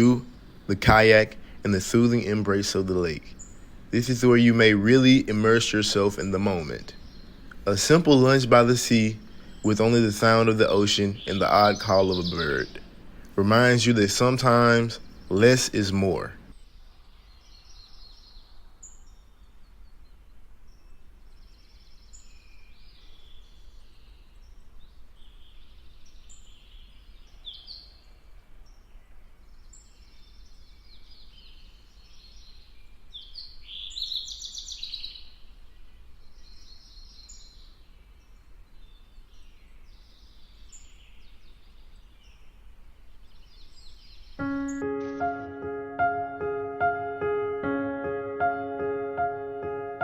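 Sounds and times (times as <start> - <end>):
songbirds singing: 0.0 - 50.0.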